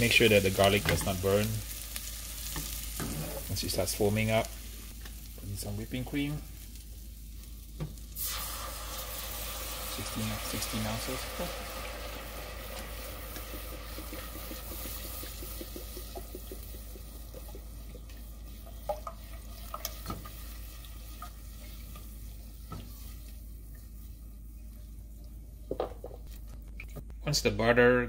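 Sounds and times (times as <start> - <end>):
cream sizzling in a saucepan: 0.0 - 26.3.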